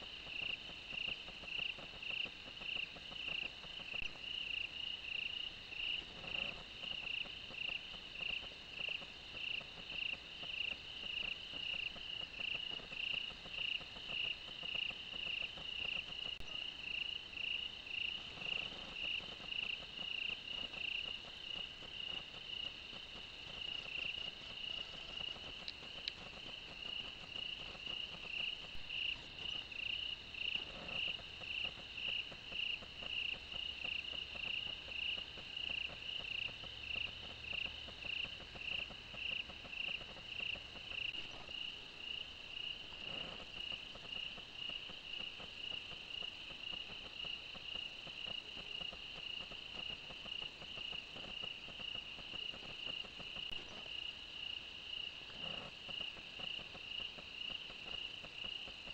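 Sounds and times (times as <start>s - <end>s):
insects chirping: 0.0s - 58.9s.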